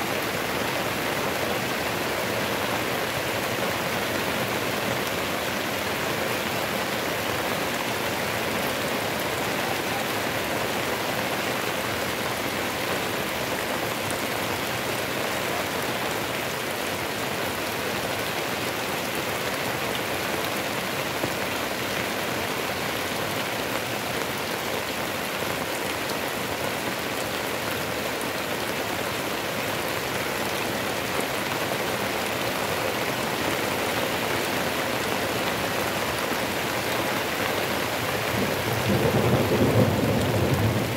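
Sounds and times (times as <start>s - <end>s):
heavy rain on roofs: 0.0s - 40.9s.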